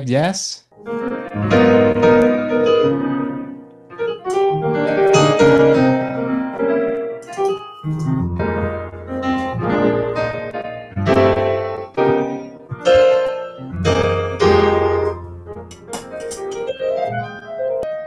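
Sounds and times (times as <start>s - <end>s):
jazz piano: 0.7s - 18.0s.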